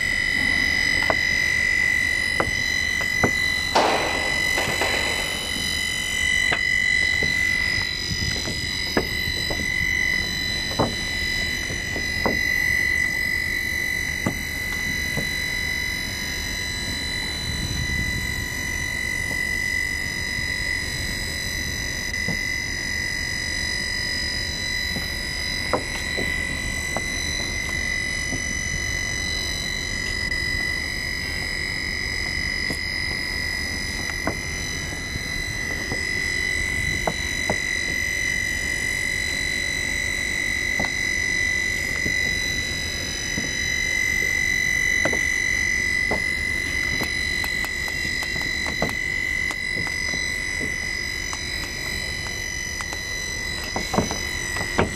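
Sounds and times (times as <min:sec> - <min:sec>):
welding machine motor whine: 0:00.0 - 0:54.9.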